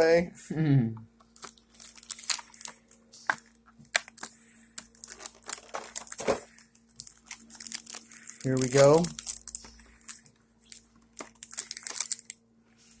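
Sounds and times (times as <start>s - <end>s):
plastic packaging crinkling: 1.2s - 12.4s.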